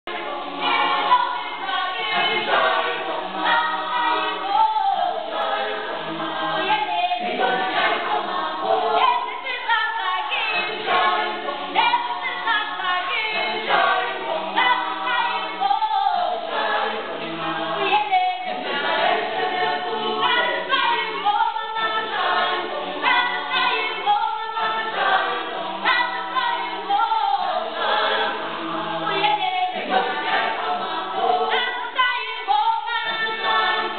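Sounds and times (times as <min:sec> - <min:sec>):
group singing unaccompanied: 0:00.0 - 0:33.9.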